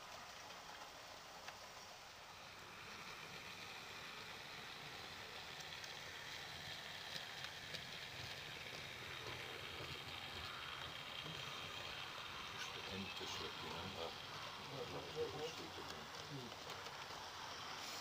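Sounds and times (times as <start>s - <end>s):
model train rumbling on track: 0.0s - 18.0s.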